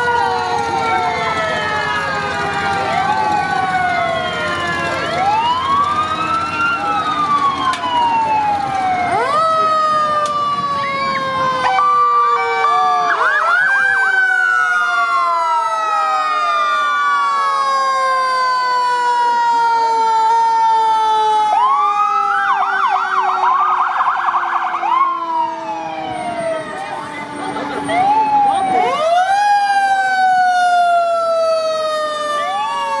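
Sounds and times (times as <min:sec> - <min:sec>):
emergency sirens wailing: 0:00.0 - 0:33.0
fast warbling siren yelp: 0:00.0 - 0:33.0.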